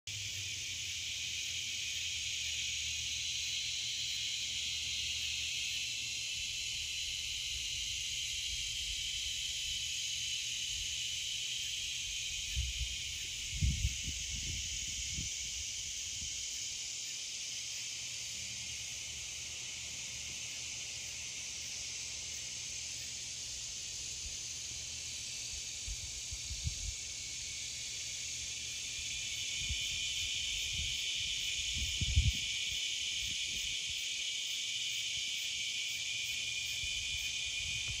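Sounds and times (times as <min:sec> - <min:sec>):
cicadas and tree frogs droning: 0:00.1 - 0:38.0.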